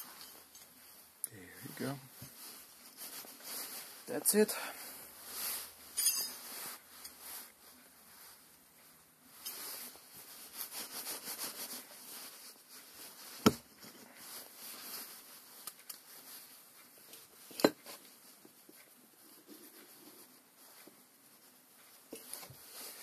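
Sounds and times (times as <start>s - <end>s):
hands rustling on metal parts: 0.0s - 1.2s, 2.2s - 23.0s.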